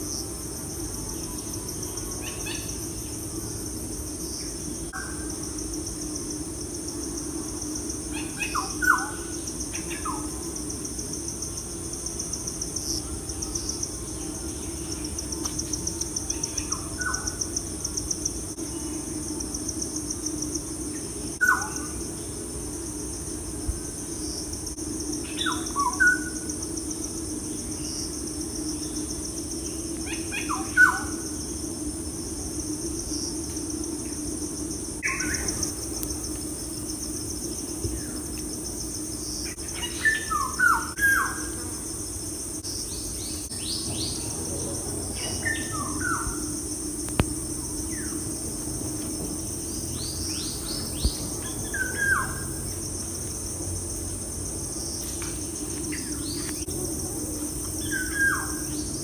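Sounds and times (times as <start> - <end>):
crickets trilling: 0.0 - 59.0
low steady hum: 0.0 - 59.0.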